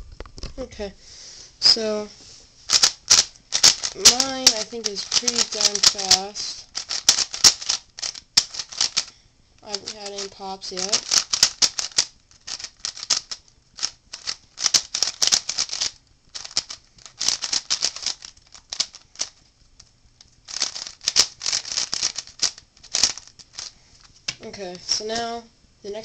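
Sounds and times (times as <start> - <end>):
puzzle cube plastic layers clacking: 2.7 - 19.4, 20.5 - 25.3.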